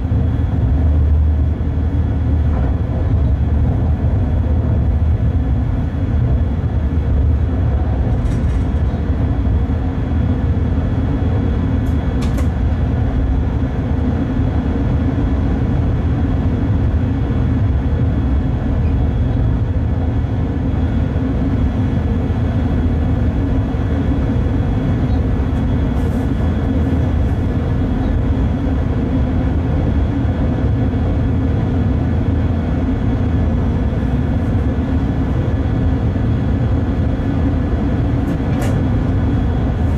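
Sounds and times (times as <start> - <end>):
train running gear rumble: 0.0 - 39.9.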